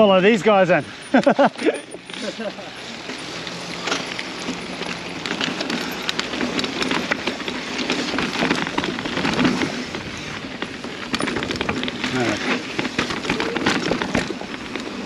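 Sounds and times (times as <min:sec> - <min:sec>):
bike rattling clicks and knocks: 0:00.0 - 0:15.0
tyres crunching over gravel: 0:00.0 - 0:15.0.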